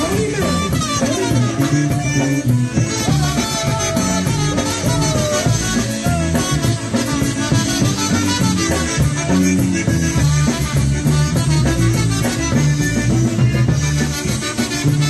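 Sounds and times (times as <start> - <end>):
polka band with concertina: 0.0 - 15.0.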